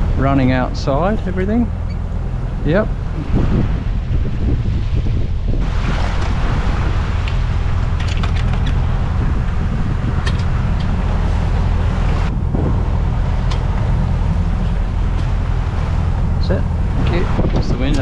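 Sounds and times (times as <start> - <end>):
rushing bow wave: 0.0 - 18.0
steady low drone: 0.0 - 18.0
wind on microphone: 0.0 - 18.0.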